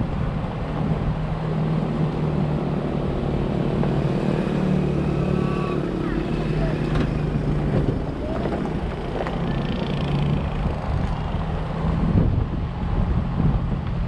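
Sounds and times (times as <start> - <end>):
wind buffeting microphone: 0.0 - 4.8, 5.8 - 14.0
road rumble: 0.0 - 14.0
vehicle engine running: 0.0 - 14.0.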